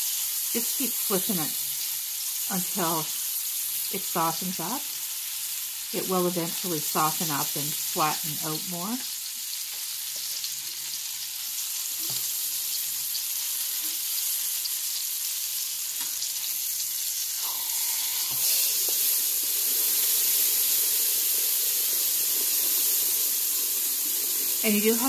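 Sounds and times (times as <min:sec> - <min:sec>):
mushroom sizzling in frying pan: 0:00.0 - 0:25.0.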